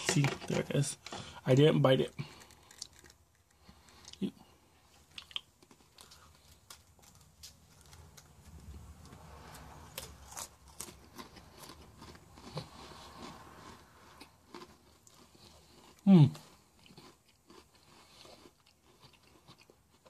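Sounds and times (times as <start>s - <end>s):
cracker crunching being chewed: 2.0s - 20.0s.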